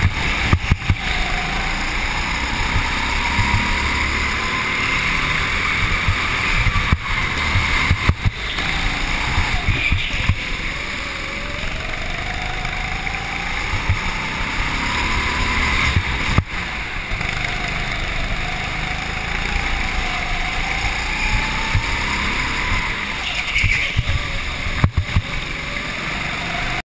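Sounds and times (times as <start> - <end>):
go-kart engine revving: 0.0 - 26.8.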